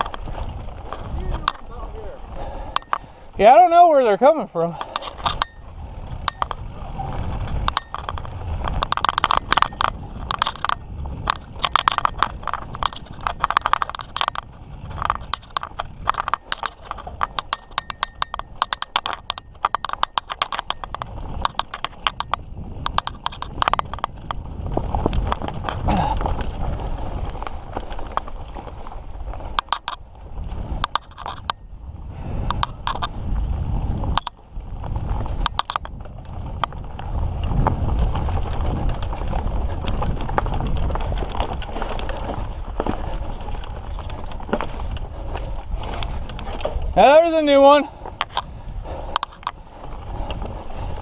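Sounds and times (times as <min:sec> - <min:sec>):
bike rattling over rocks: 0:00.0 - 0:51.0
tyres rumbling on dirt: 0:00.0 - 0:51.0.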